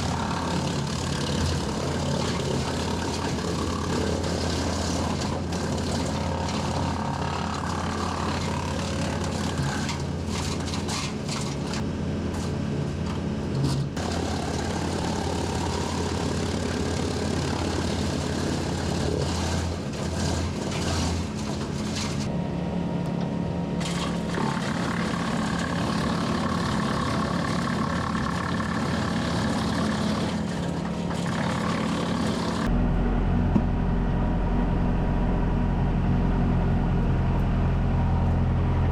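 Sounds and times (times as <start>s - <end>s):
wood chipper crackling limbs: 0.0s - 22.3s, 23.1s - 38.9s
tractor engine drone: 0.0s - 38.9s.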